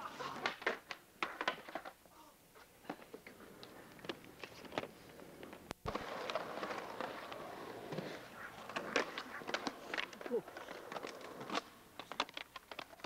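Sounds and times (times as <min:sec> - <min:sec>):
skateboard wheels rolling on concrete: 0:00.0 - 0:13.0.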